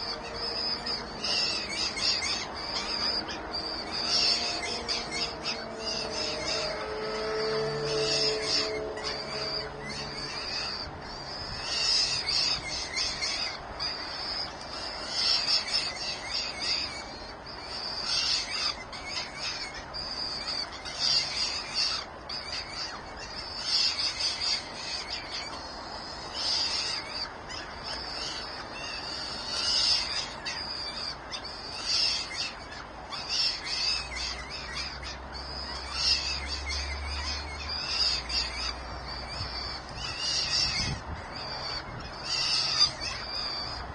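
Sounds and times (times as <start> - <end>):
nestling birds calling: 0.0 - 43.9.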